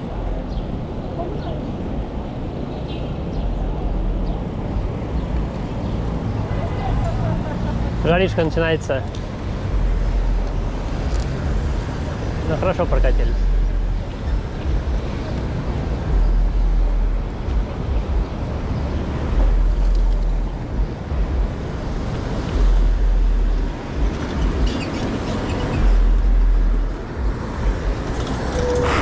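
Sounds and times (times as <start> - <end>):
heavy low rumbles: 0.0 - 29.0
road noise: 0.0 - 29.0.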